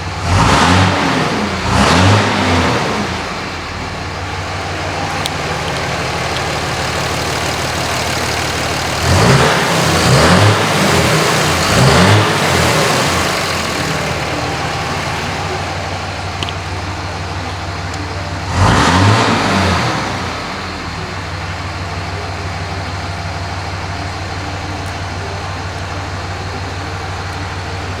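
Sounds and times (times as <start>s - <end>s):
diesel engine idling and revving: 0.0s - 28.0s.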